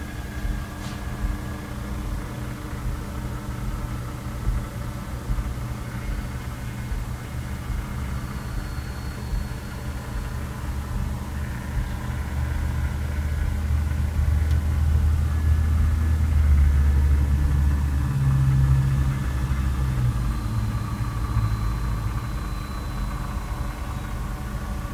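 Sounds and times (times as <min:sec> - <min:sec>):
low mechanical rumble with hum: 0:00.0 - 0:24.9.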